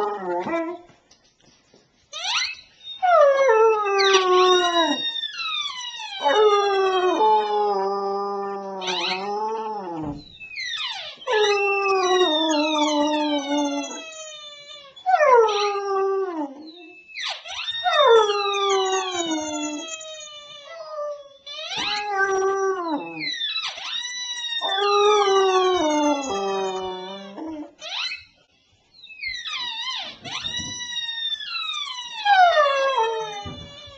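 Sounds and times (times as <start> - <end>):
rubber squeaky toy squealing: 2.1 - 28.4, 29.0 - 33.9.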